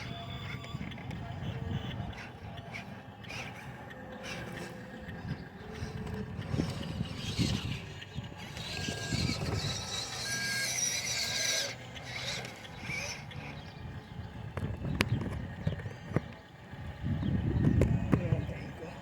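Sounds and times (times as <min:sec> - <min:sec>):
electric motor and gears whining: 0:00.0 - 0:19.0.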